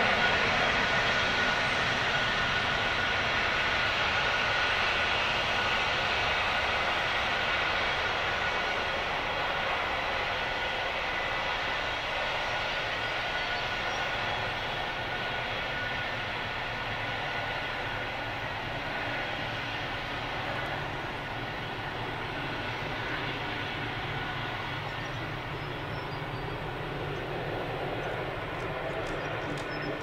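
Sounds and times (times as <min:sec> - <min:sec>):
locomotive engine drone: 0:00.0 - 0:30.0.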